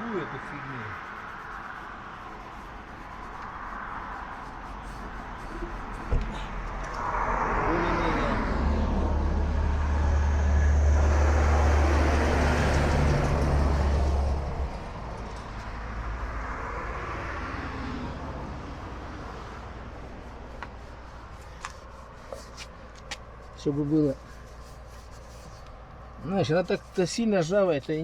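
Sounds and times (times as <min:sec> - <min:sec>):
motor vehicle rumble: 0:00.0 - 0:28.0.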